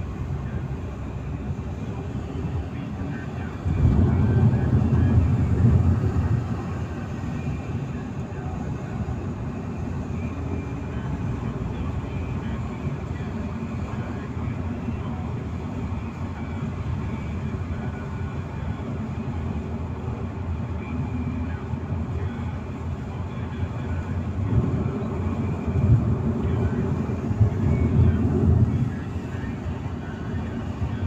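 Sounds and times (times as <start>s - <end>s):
car road noise rumble: 0.0s - 31.0s.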